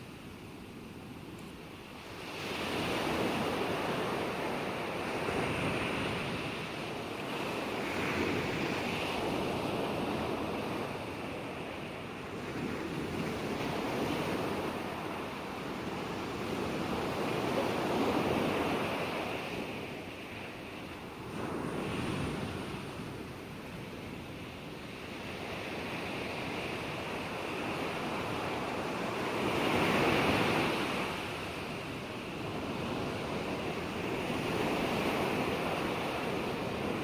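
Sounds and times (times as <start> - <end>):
ocean waves breaking: 2.0 - 37.0.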